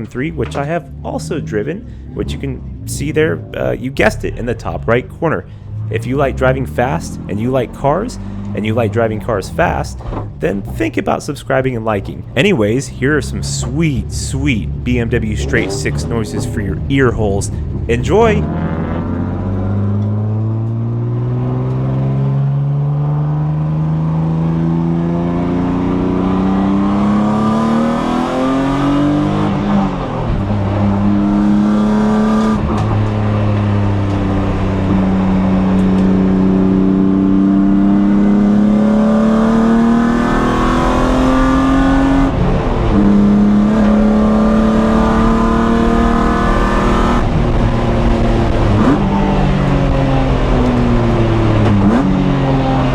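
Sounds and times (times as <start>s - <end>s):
car engine revving hard: 5.5s - 11.0s, 11.8s - 52.9s.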